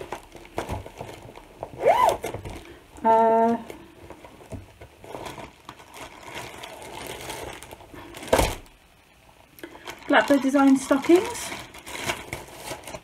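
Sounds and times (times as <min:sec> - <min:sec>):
plastic and fabric bags rustling: 0:00.0 - 0:13.0.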